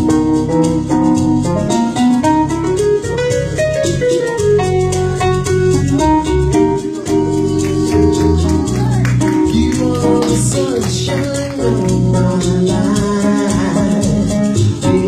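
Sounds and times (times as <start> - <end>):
melodic instrument lines: 0.0 - 12.9
bass line: 0.0 - 15.0
ticking percussion rhythm: 0.0 - 15.0.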